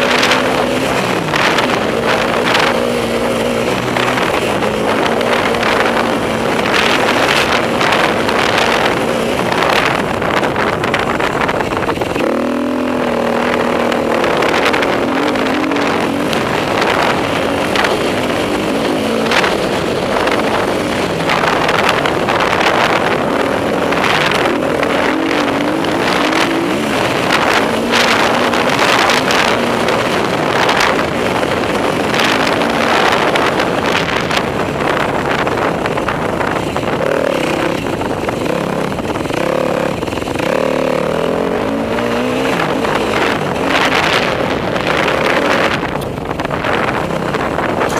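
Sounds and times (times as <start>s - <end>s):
motorcycle engine revving: 0.0s - 47.9s
wind on microphone: 0.0s - 47.9s.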